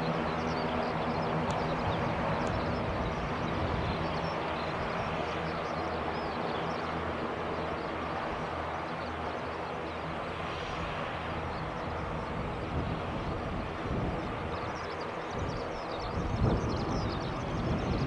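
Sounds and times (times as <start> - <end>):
turboprop engines droning: 0.0 - 18.0.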